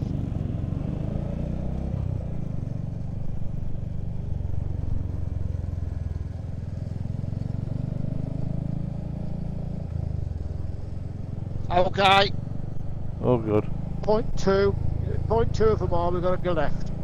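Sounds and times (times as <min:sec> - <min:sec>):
motorcycle engine running: 0:00.0 - 0:17.0
road noise: 0:00.0 - 0:17.0.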